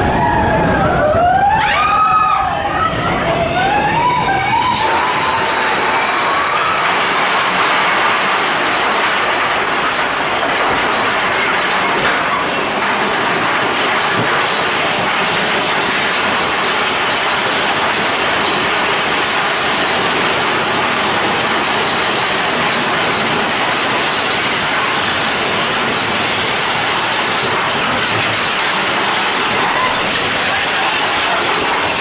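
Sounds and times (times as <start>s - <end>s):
roller coaster wheels rattling: 0.0s - 32.0s.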